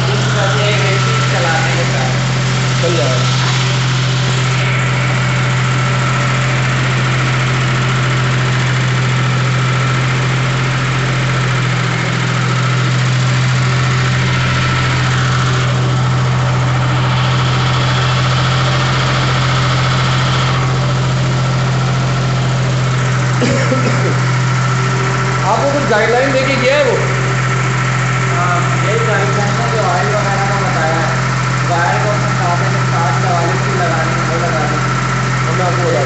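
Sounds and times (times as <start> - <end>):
generator engine running: 0.0 - 36.0.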